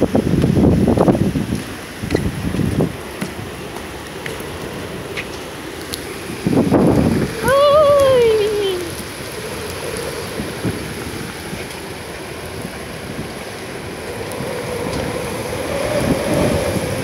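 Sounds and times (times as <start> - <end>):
heavy rain on wood and water: 0.0 - 17.0.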